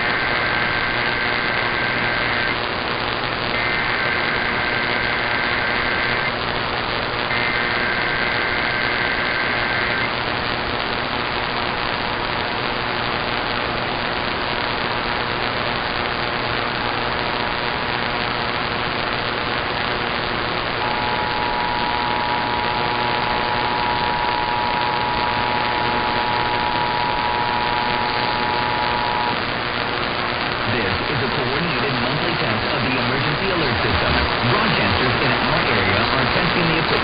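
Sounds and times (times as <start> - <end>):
radio static hiss: 0.0 - 37.0.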